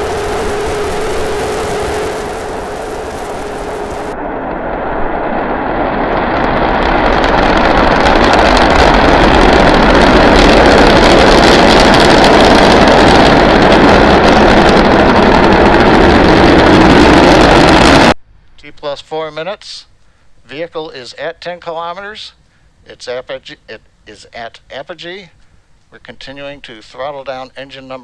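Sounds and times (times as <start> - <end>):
rocket engines roaring: 0.0 - 19.6, 20.4 - 28.0.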